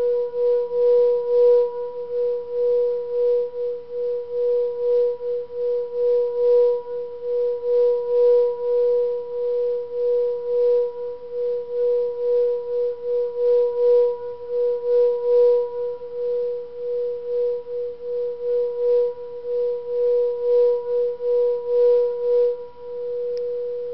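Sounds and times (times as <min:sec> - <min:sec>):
singing bowl ringing: 0:00.0 - 0:23.9.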